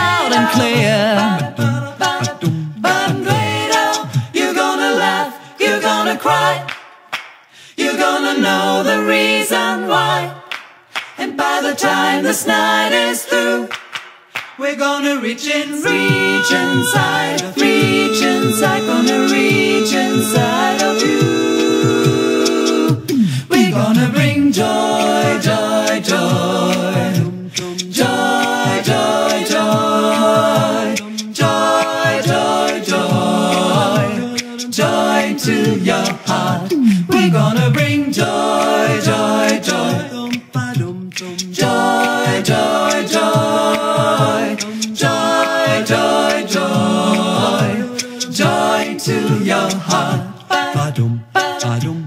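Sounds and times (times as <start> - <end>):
a cappella group singing harmony: 0.0 - 52.0
rhythmic vocal beat: 0.0 - 52.0.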